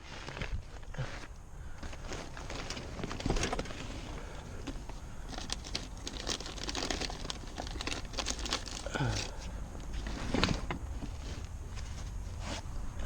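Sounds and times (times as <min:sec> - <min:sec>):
wire handling clicks and rustling: 0:00.1 - 0:12.6.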